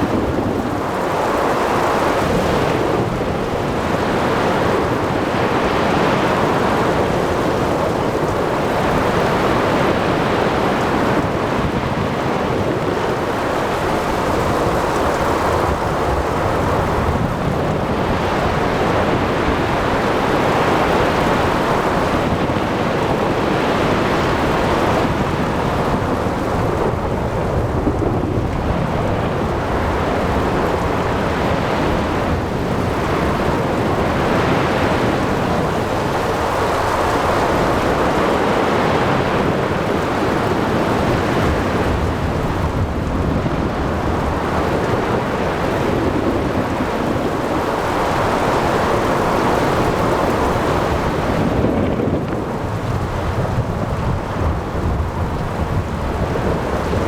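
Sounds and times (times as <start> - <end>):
rain: 0.0 - 57.0.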